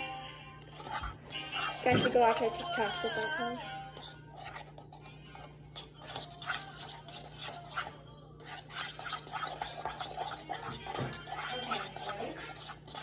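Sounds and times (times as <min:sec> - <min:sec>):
spoon scraping in ceramic bowl: 0:00.6 - 0:13.0.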